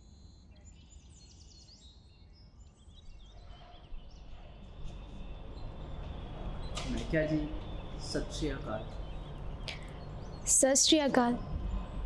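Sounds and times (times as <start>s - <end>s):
birds chirping faintly: 0.0s - 12.0s
low steady background noise: 0.0s - 12.0s.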